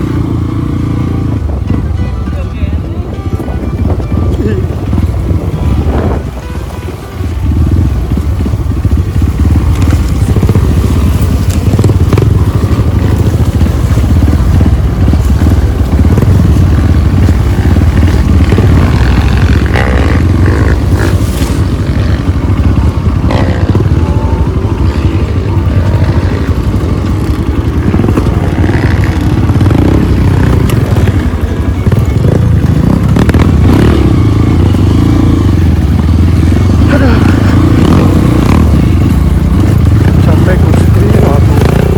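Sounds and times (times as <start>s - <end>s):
motorcycle engine rumbling: 0.0s - 41.9s.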